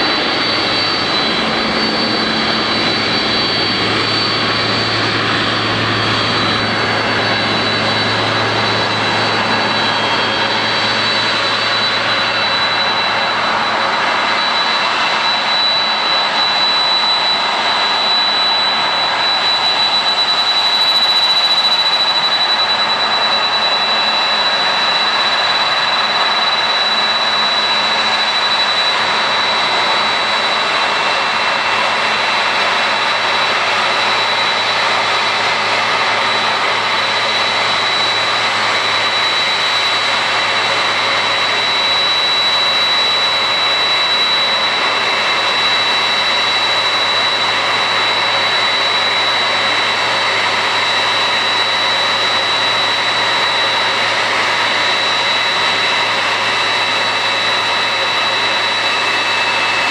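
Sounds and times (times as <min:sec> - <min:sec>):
jet engines idling: 0:00.0 - 0:59.9.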